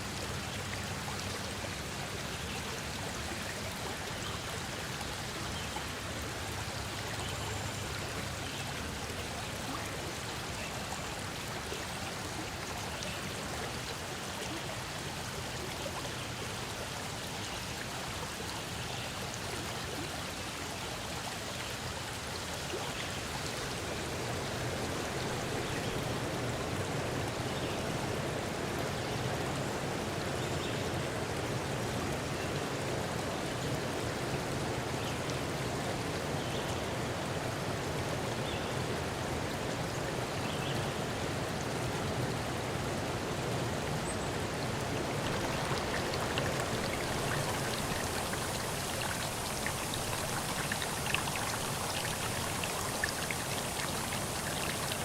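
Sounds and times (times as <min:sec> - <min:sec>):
rushing running water: 0:00.0 - 0:55.0.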